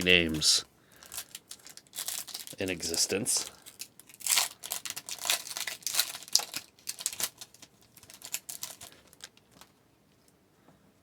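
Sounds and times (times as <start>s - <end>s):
wrapper crinkling: 0.0s - 9.7s.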